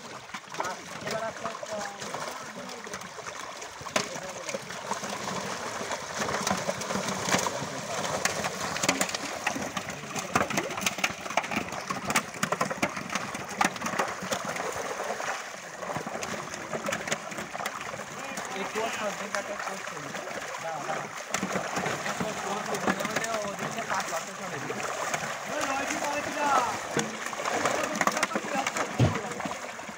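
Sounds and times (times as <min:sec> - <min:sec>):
fish splashing in shallow water: 0:00.0 - 0:29.9.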